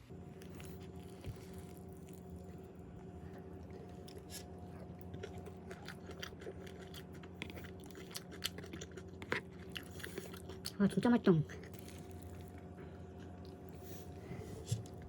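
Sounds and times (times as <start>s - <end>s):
person chewing crunchy food: 0.3s - 15.0s.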